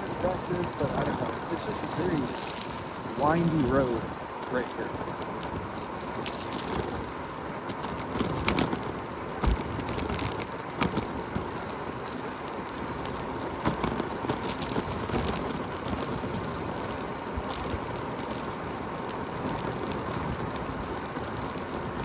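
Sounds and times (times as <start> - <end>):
tyre noise on wet pavement: 0.0 - 22.0
wind over microphone: 0.0 - 22.0.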